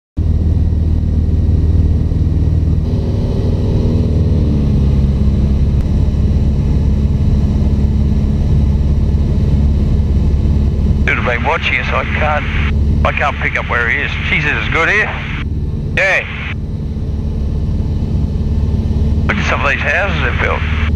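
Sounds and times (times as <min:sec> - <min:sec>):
light aircraft engine droning: 0:00.2 - 0:20.9.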